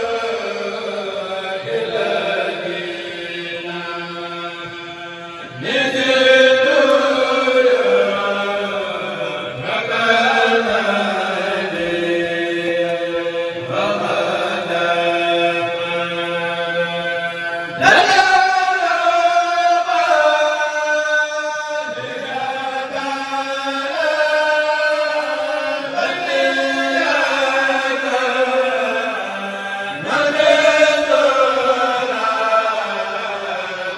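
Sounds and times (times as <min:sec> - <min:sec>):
men chanting religious verse: 0:00.0 - 0:33.9.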